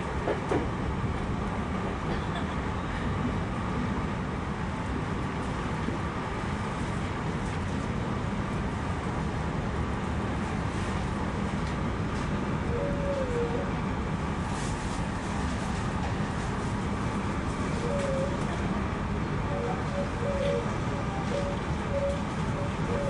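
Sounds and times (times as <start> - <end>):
train wheels rumbling: 0.0 - 19.6.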